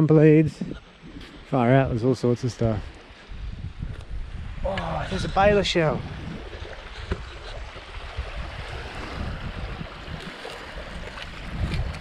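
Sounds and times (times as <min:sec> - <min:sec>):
waves on the shore: 0:00.0 - 0:12.0
wind: 0:00.0 - 0:12.0
wind rumbling on microphone: 0:00.5 - 0:12.0.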